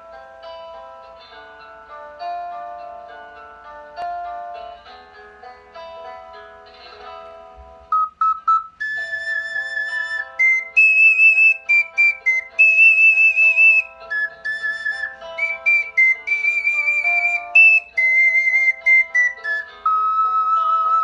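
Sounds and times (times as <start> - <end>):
ocarina melody: 0.0 - 21.0
soft backing accompaniment: 0.0 - 21.0.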